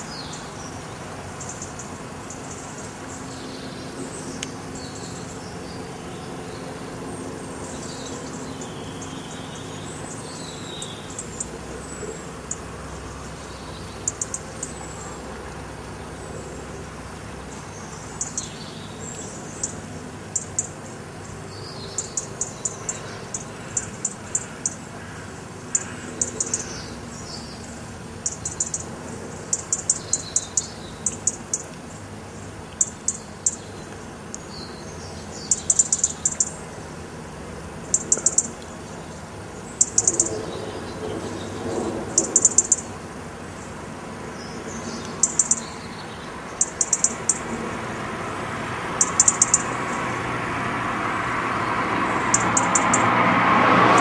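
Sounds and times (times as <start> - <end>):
small birds chirping: 0.0 - 53.2.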